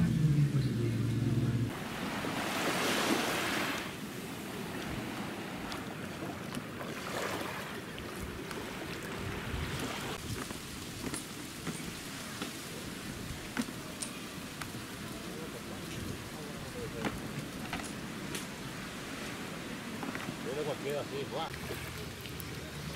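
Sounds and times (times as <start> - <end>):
small waves washing onto beach: 1.7 - 22.9.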